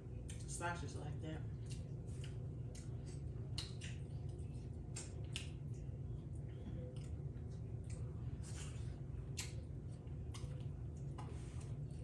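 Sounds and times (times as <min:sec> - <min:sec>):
wet chewing smacks and clicks: 0:00.0 - 0:00.5, 0:01.5 - 0:12.0
steady low hum: 0:00.0 - 0:12.0.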